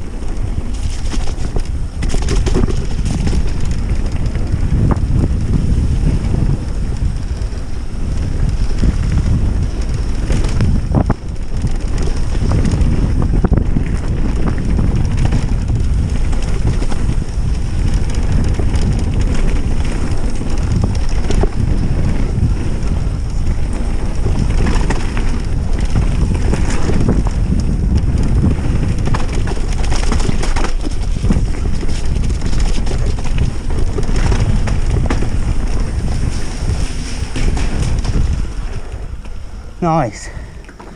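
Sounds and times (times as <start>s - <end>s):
bike knocks and rattles: 0.0s - 39.6s
wind buffeting microphone: 0.0s - 40.9s.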